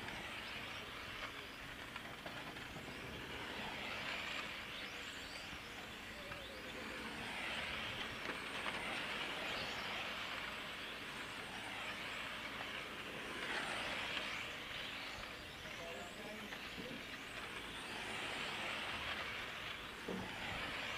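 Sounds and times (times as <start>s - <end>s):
high motor whines: 0.0s - 20.9s
toy cars racing: 0.0s - 20.9s.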